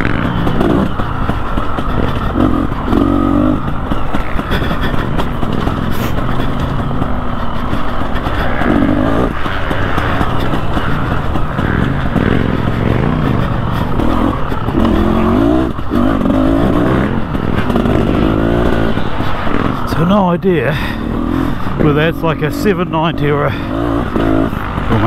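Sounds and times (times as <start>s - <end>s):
two-stroke motorcycle engine revving: 0.0s - 25.0s.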